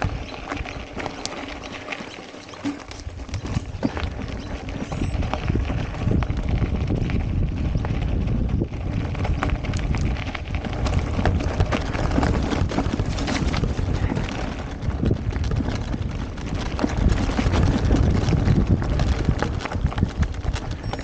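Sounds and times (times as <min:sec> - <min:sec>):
wind on microphone: 0:00.0 - 0:01.4, 0:02.5 - 0:21.0
bike tyres rumbling on gravel: 0:00.0 - 0:21.0.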